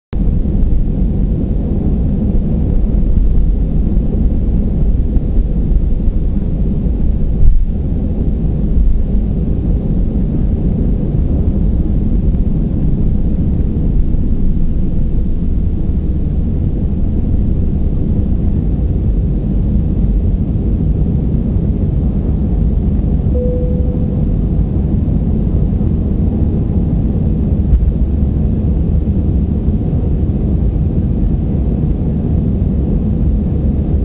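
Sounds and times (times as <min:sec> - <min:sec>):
airliner jet engines rumbling: 0:00.2 - 0:34.0.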